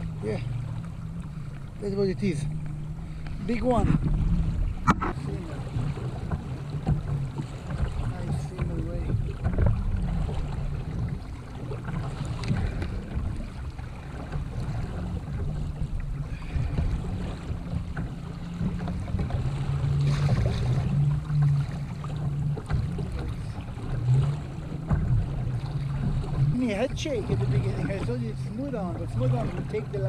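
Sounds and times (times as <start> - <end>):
water sounds: 0.0 - 30.0
wind buffeting microphone: 0.0 - 30.0.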